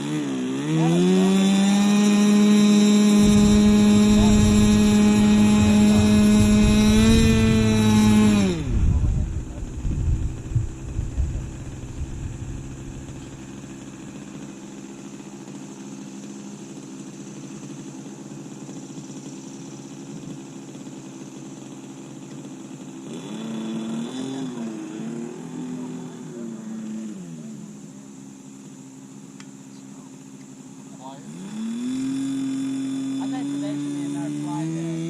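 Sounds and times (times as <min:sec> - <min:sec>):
model airplane motor droning: 0:00.0 - 0:35.0.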